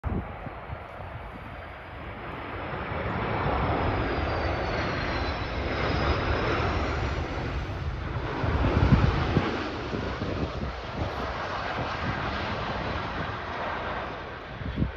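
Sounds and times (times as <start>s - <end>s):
jet engines rushing: 0.1s - 14.9s
faint high engine whine: 0.2s - 14.9s.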